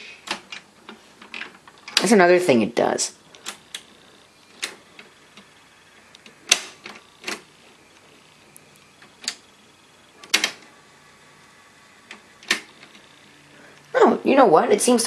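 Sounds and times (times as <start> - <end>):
tape mechanism clunking: 0.0 - 2.2, 3.2 - 13.9.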